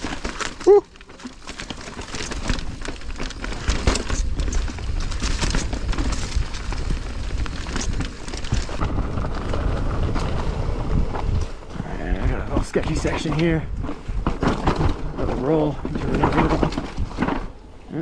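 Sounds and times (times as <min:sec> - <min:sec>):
bike rattling: 0:00.0 - 0:18.0
tyres rolling over dirt and rocks: 0:00.0 - 0:18.0
wind rumble on microphone: 0:02.2 - 0:18.0.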